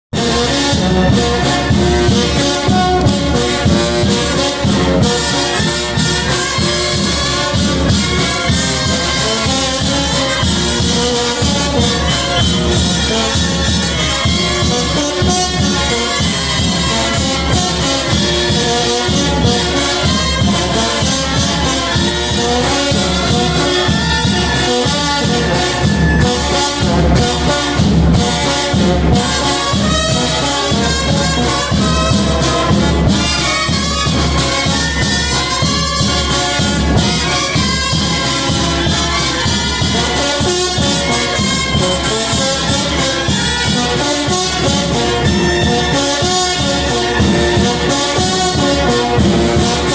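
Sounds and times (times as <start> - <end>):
brass band playing: 0.1 - 49.9.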